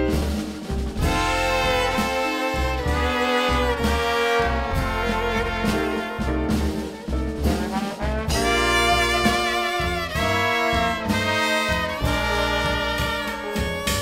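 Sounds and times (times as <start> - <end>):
brass band playing: 0.0 - 14.0
pulsing bass line: 0.0 - 14.0
trombone: 0.0 - 14.0
trumpet: 0.0 - 14.0.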